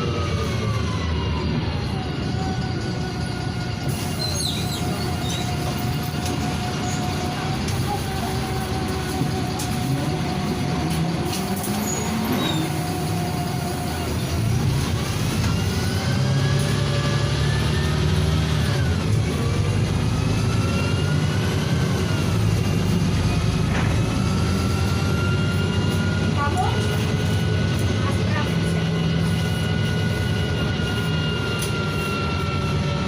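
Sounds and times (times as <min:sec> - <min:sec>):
bus diesel engine rumble: 0:00.0 - 0:33.0
drivetrain whine: 0:00.0 - 0:33.0.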